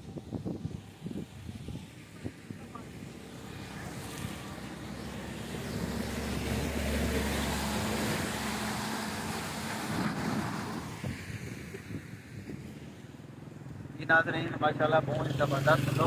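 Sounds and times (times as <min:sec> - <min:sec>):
tyres hissing on wet road: 0:00.0 - 0:13.7
car engine passing: 0:00.9 - 0:16.0.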